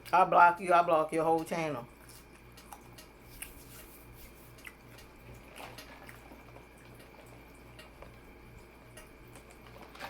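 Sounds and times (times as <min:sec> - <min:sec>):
steady low hum: 0:00.0 - 0:10.0
person chewing food: 0:01.9 - 0:10.0.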